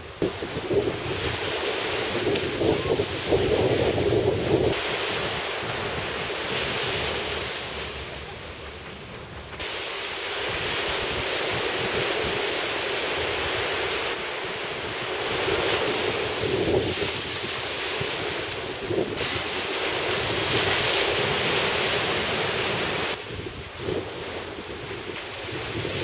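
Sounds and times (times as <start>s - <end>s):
surf washing up beach: 0.0s - 26.0s
wind rumbling on microphone: 0.0s - 26.0s.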